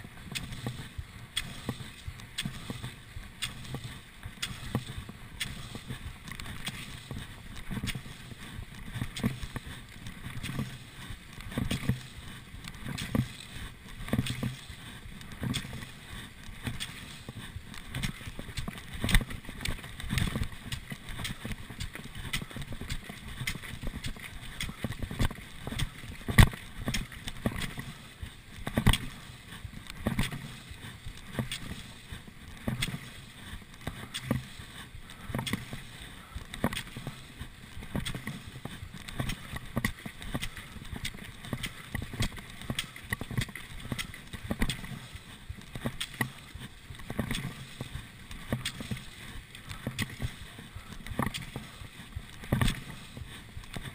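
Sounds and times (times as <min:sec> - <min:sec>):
ski poles planting in snow: 0:00.0 - 0:53.9
skis gliding hiss: 0:00.0 - 0:53.9.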